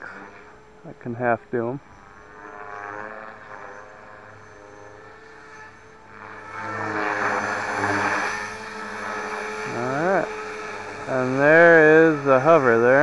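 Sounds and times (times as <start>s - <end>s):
rc helicopter rotor whine: 0.0s - 13.0s.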